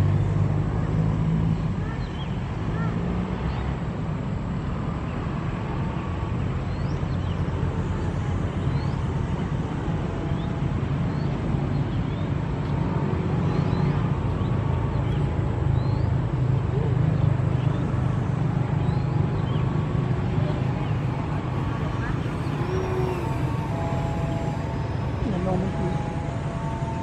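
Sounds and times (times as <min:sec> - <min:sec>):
distant model plane propeller drone: 0:00.0 - 0:27.0.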